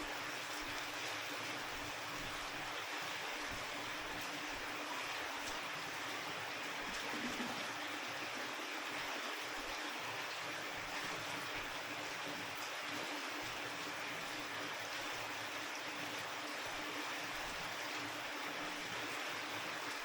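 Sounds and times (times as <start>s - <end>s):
faint steady hum: 0.0s - 20.0s
steady rain falling: 0.0s - 20.0s.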